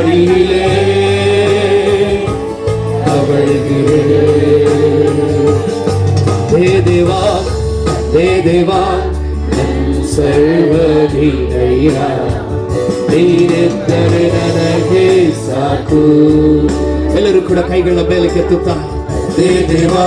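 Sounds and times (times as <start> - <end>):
man singing: 0.0 - 20.0
steady bass: 0.0 - 20.0
sustained keyboard chord: 0.0 - 20.0.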